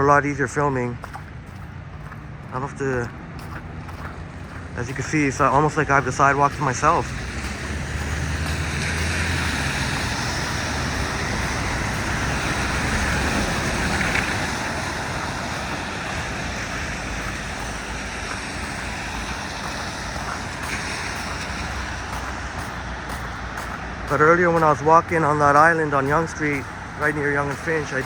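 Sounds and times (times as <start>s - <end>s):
car tyres hissing on wet pavement: 4.2s - 28.0s.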